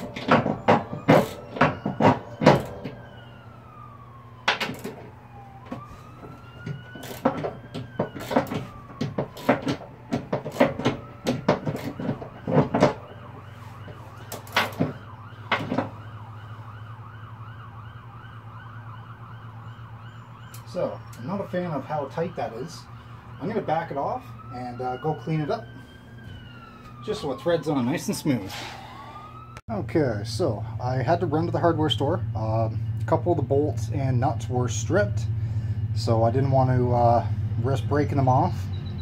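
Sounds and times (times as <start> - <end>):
siren wailing: 0.0 - 39.0.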